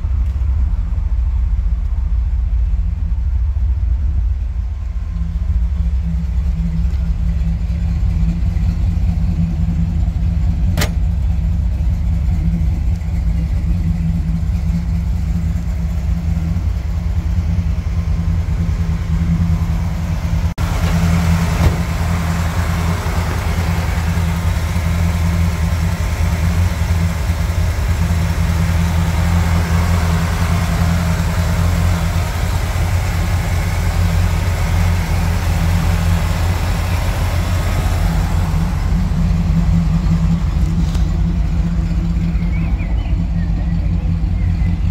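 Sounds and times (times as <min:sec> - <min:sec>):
truck engine idling: 0:00.0 - 0:44.9.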